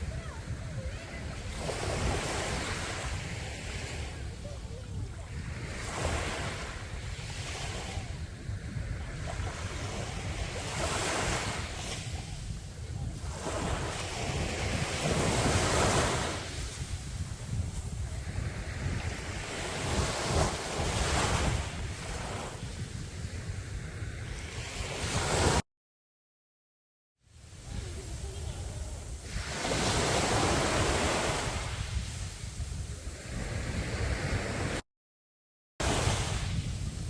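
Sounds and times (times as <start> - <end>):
sea waves breaking on beach: 0.0 - 25.6, 27.4 - 34.8, 35.8 - 37.0
wind buffeting microphone: 0.0 - 25.6, 27.4 - 34.8, 35.8 - 37.0.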